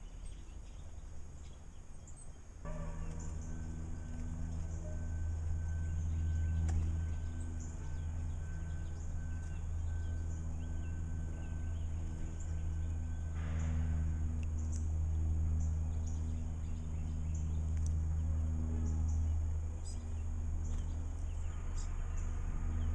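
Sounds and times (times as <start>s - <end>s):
small birds chirping: 0.0s - 22.9s
steady low hum: 0.0s - 22.9s.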